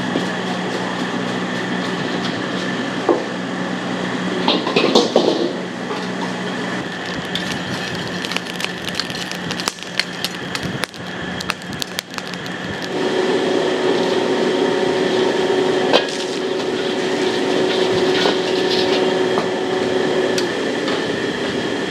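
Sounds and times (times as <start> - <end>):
higher steady hum: 0.0 - 21.9
steady rushing noise and hum: 3.0 - 21.9.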